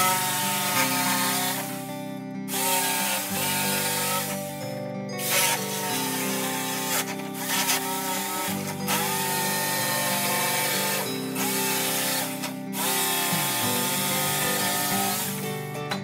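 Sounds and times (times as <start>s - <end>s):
background music: 0.0s - 16.0s
jigsaw cutting wood: 0.0s - 16.0s.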